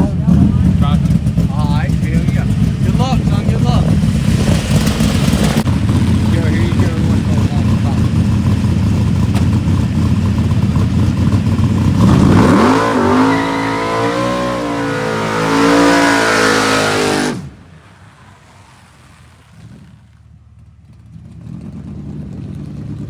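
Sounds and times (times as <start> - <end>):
truck engine revving and launching: 0.0 - 20.2.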